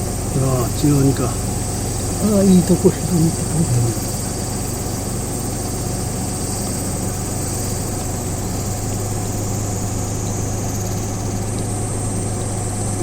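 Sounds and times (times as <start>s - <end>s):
insects droning: 0.0s - 13.0s
low engine-like hum: 0.0s - 13.0s.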